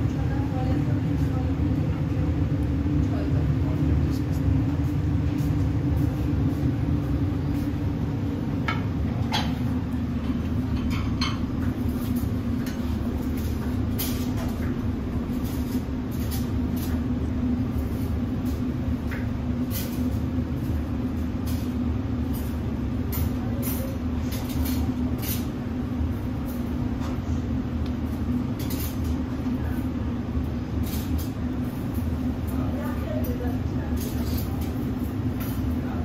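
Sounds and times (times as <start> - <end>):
kitchen machinery humming: 0.0 - 36.0.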